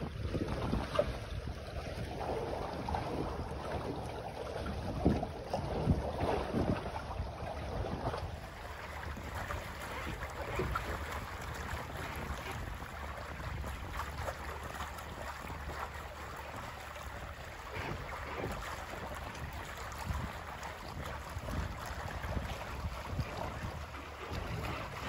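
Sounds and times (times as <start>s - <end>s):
water rushing past hull: 0.0s - 25.0s
wind rumbling on microphone: 0.0s - 25.0s.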